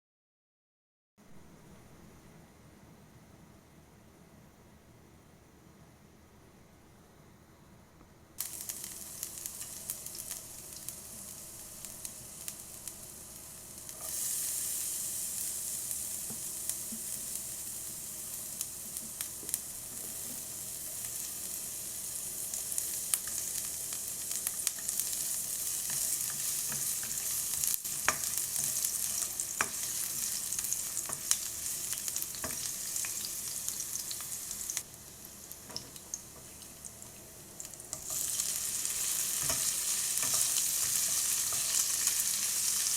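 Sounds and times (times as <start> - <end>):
food sizzling in a hot pan: 8.4 - 42.9.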